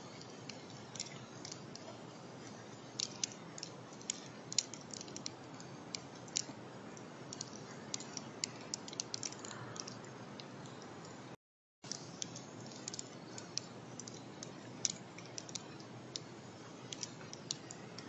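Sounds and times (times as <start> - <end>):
steady hiss: 0.0 - 18.0
sharp clicks and ticks: 0.1 - 10.9, 11.9 - 18.0.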